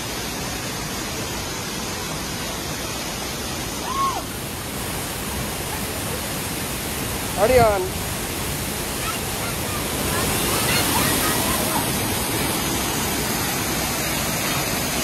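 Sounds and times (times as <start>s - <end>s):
river and waterfall rushing: 0.0s - 15.0s.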